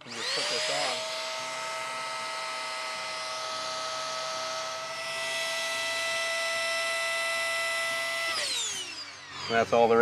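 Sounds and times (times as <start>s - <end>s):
electric inflation pump whining: 0.0s - 10.0s.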